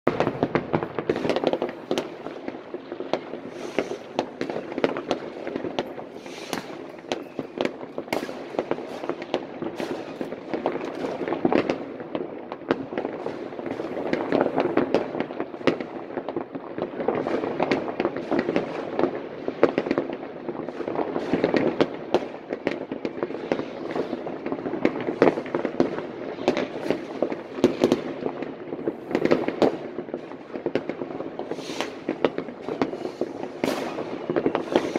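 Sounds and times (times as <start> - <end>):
fireworks banging and crackling: 0.1 - 34.9.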